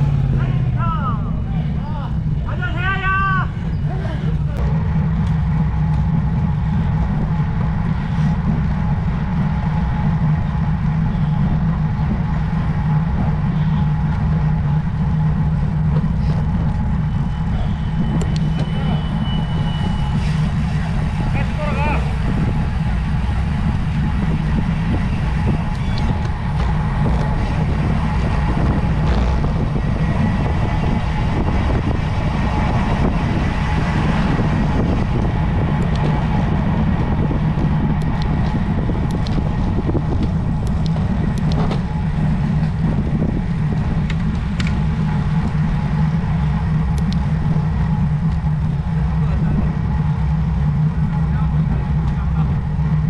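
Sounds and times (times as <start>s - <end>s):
road and tyre noise: 0.0s - 53.0s
wind buffeting microphone: 0.0s - 53.0s.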